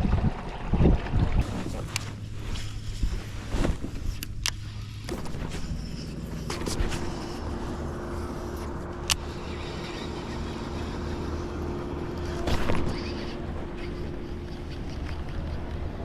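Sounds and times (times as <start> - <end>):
boat motor humming: 0.1 - 16.0.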